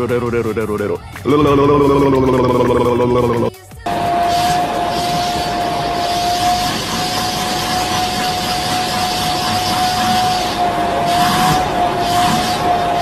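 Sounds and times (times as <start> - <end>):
vacuum cleaner running: 1.3 - 13.0.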